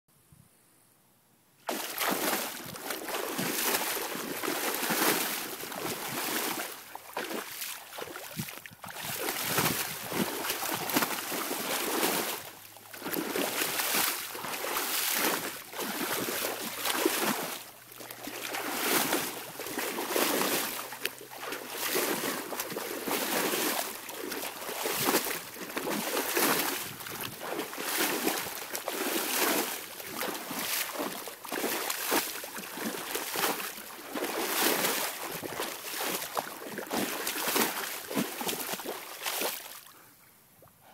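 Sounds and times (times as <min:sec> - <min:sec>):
dog splashing in water: 0:01.7 - 0:39.9.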